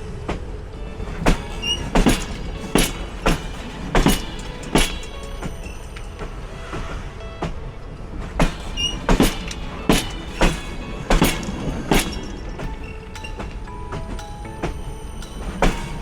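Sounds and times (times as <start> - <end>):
train rumble: 0.0 - 16.0
train wheels clacking on track: 0.0 - 16.0.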